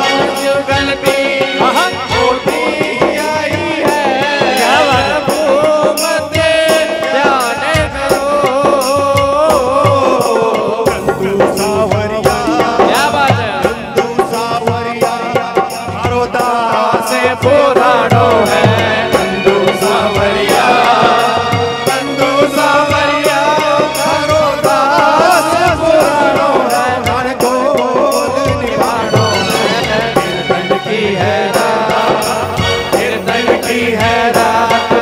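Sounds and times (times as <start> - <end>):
hand drum beat: 0.0 - 35.0
keyboard melody: 0.0 - 35.0
voices singing: 0.0 - 35.0.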